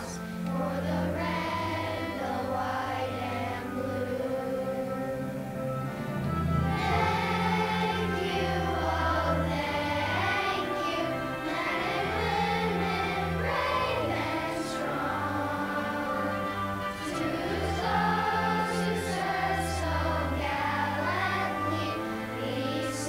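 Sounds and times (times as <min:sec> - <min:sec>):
children's choir singing: 0:00.0 - 0:23.0
instrumental accompaniment: 0:00.0 - 0:23.0.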